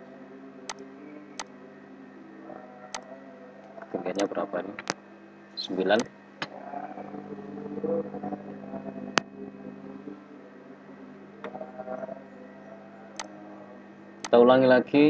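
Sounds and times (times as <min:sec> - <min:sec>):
low fan hum: 0:00.0 - 0:15.0.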